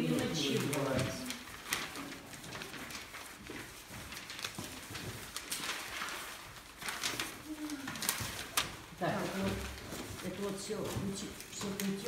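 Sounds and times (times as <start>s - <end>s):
paper sheets rustling: 0.0s - 12.0s.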